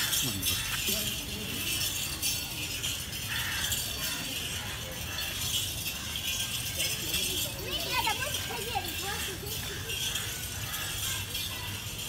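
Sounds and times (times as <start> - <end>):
harness bells jingling: 0.0 - 12.0.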